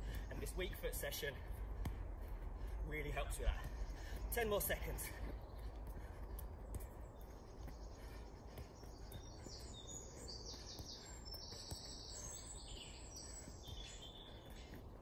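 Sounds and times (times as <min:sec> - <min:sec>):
songbird chirping trills: 0:02.8 - 0:15.0.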